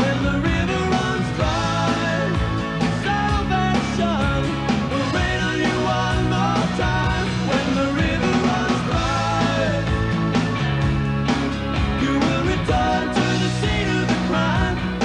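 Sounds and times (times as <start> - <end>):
rock music with singing: 0.0 - 15.0.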